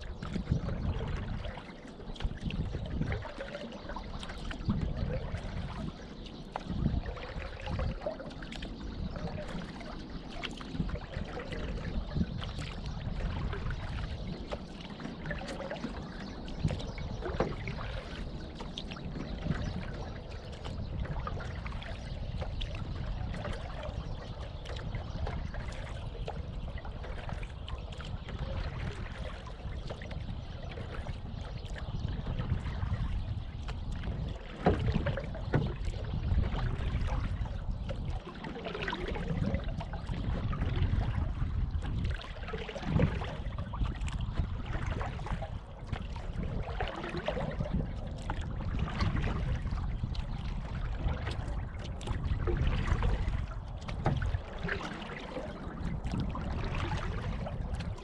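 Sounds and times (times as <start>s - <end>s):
water splashing around canoe: 0.0s - 58.0s.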